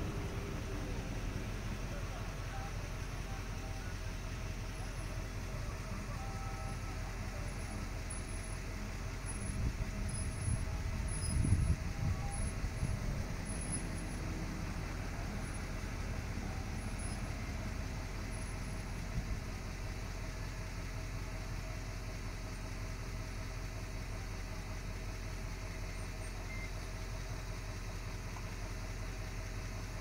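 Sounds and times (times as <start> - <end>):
engine low rumble: 0.0 - 30.0.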